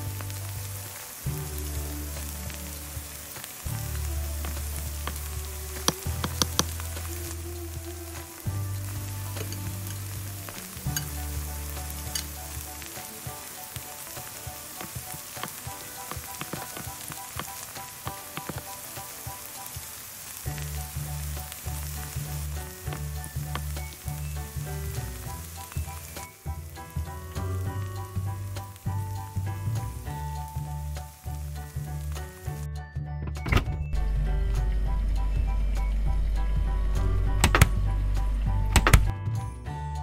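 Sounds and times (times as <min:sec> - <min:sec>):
background music with bass line: 0:00.0 - 0:19.4, 0:20.5 - 0:40.0
food sizzling in a frying pan: 0:00.0 - 0:32.6.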